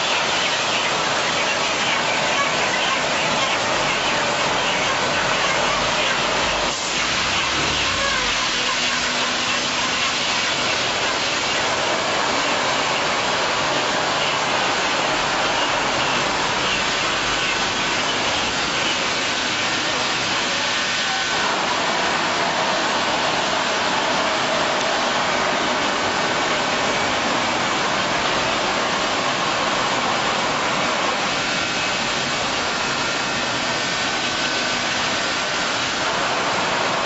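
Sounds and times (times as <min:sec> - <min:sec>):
processing machinery hissing: 0:00.0 - 0:37.0.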